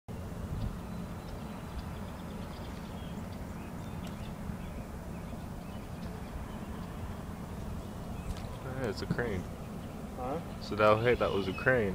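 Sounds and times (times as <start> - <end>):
steady low rumble: 0.1 - 11.9
faint bird chirps: 0.5 - 11.9.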